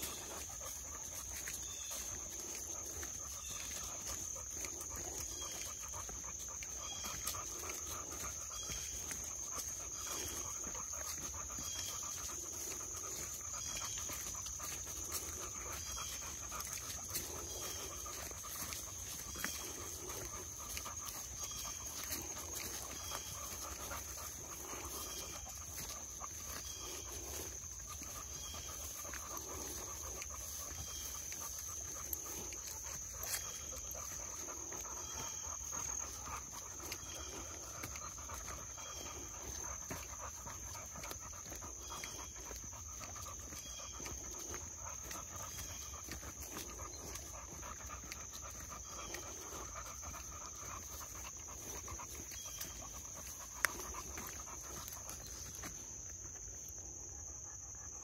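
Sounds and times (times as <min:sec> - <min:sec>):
high-pitched insect drone: 0:00.0 - 0:56.6
dogs panting: 0:00.0 - 0:58.0.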